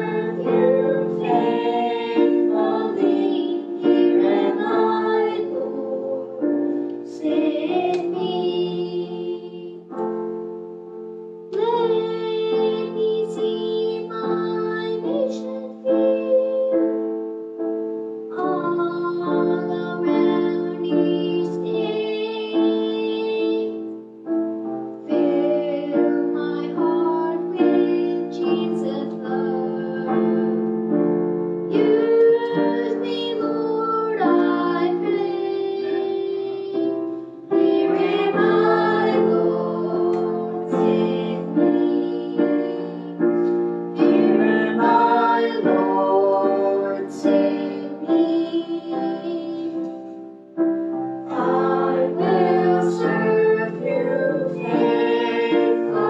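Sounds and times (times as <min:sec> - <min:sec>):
children singing: 0:00.0 - 0:10.0, 0:11.5 - 0:16.9, 0:18.3 - 0:23.8, 0:25.1 - 0:30.7, 0:31.7 - 0:49.9, 0:51.3 - 0:56.0
piano accompaniment: 0:00.0 - 0:56.0.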